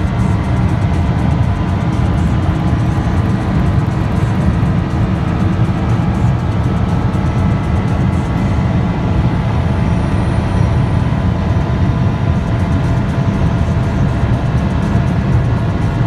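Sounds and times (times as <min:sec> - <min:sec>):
sports car engine at high revs: 0:00.0 - 0:16.0
wind and road noise: 0:00.0 - 0:16.0.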